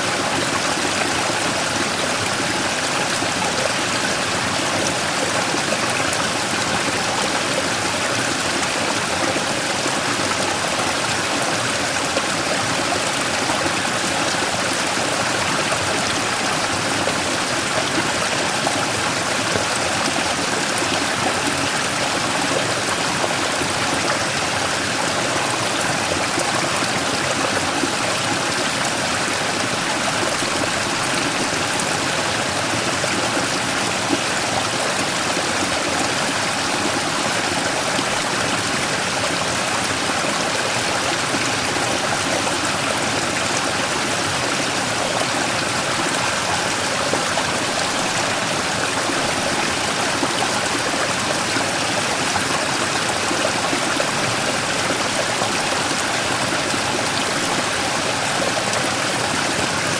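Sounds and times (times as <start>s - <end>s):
stream rushing over rock: 0.0s - 59.9s.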